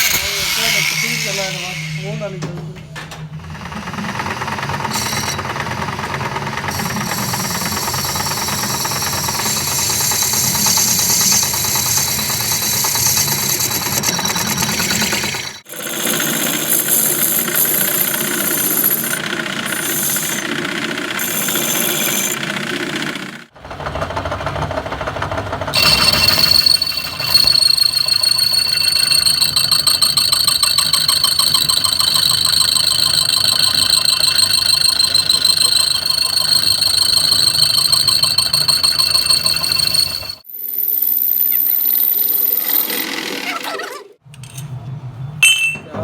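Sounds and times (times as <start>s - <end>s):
grinding machine rattling: 0.0s - 43.6s.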